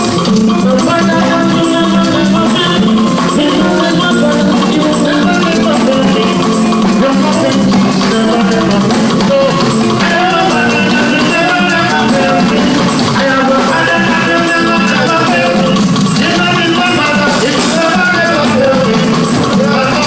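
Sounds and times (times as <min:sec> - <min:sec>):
live band instrumental music: 0:00.0 - 0:20.0.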